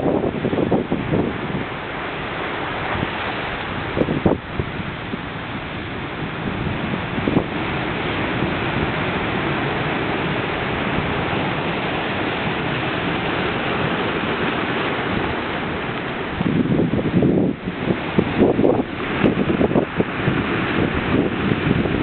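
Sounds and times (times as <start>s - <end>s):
surf breaking over rocks: 0.0s - 22.0s
wind buffeting microphone: 0.0s - 22.0s.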